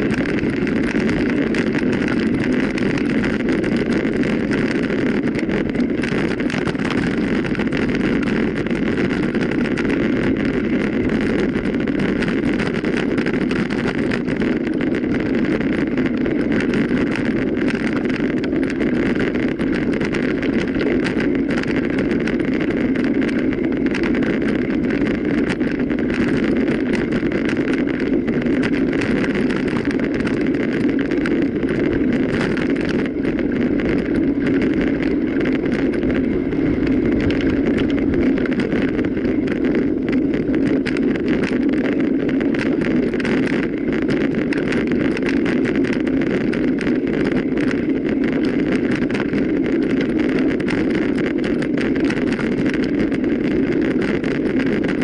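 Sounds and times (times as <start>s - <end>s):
bike rattling: 0.0s - 55.0s
wind and tyre noise: 0.0s - 55.0s.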